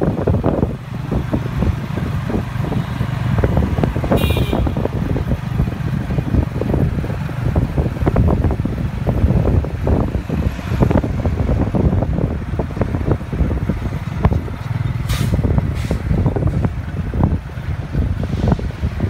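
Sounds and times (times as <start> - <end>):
motorcycle engine rumbling: 0.0 - 19.0
road and wind noise: 0.0 - 19.0.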